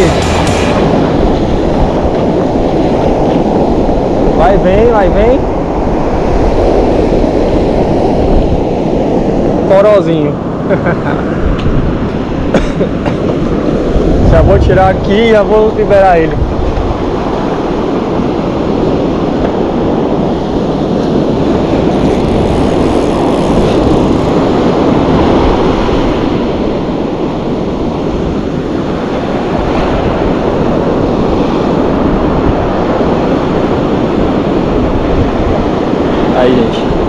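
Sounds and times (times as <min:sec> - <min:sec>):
beach surf roar: 0:00.0 - 0:37.0
wind buffeting microphone: 0:00.0 - 0:37.0.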